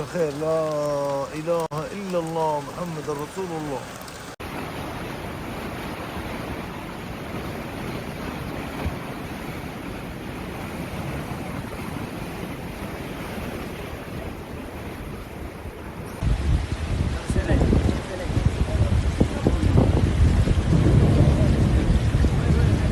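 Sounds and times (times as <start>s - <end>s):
flood water rushing: 0.0s - 22.9s.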